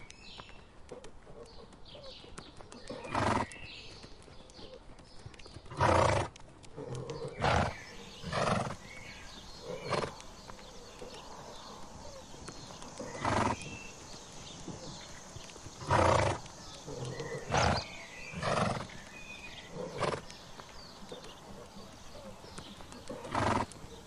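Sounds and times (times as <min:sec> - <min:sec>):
birds chirping faintly: 0:00.0 - 0:24.0
horses snorting: 0:02.7 - 0:03.8, 0:05.7 - 0:24.0.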